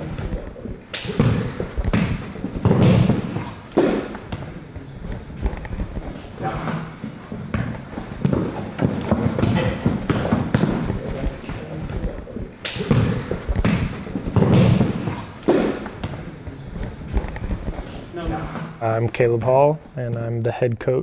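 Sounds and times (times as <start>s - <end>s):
soccer balls kicked and bouncing: 0.0s - 18.8s
players' voices: 0.0s - 21.0s.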